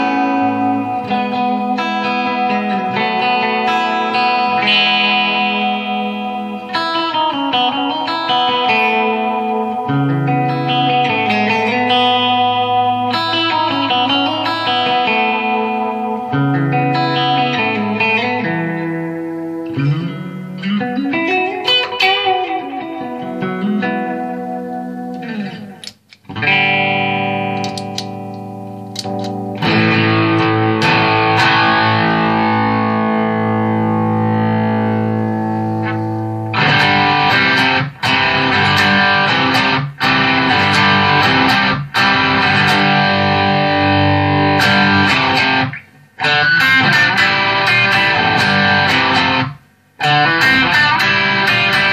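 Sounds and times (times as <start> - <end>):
overdriven electric guitar: 0.0 - 51.9.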